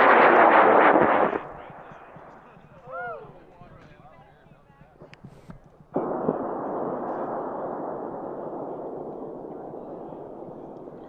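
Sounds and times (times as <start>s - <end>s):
sharp crack: 0.0s - 2.9s, 5.0s - 11.0s.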